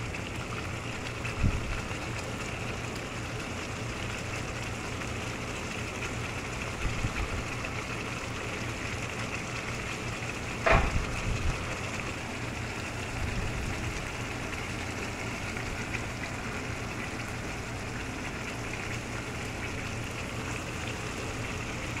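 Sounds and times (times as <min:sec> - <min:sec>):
sauce bubbling in a pan: 0:00.0 - 0:22.0.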